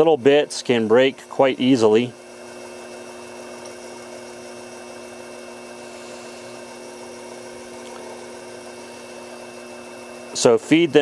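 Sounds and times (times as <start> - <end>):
milling spindle motor whining: 0.0 - 11.0.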